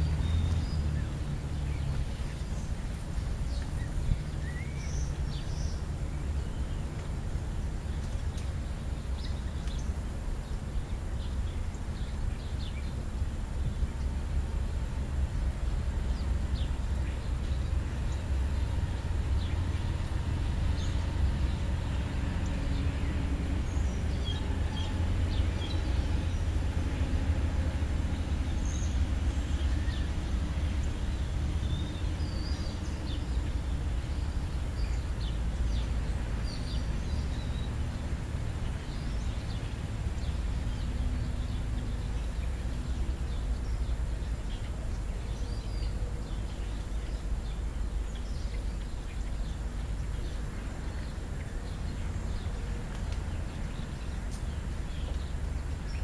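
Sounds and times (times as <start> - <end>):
low outdoor rumble: 0.0 - 56.0
small birds chirping: 0.0 - 56.0.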